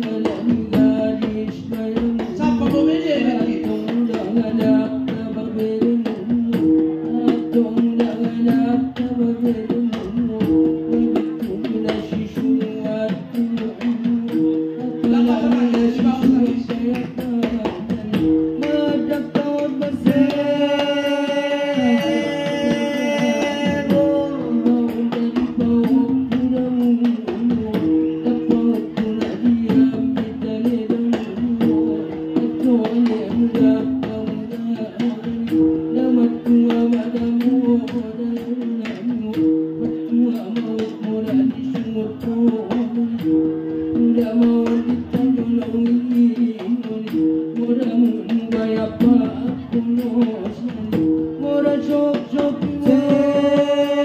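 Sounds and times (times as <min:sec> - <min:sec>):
person singing: 0:00.0 - 0:54.0
plucked-string instruments: 0:00.0 - 0:54.0
regular drumbeat: 0:00.0 - 0:54.0.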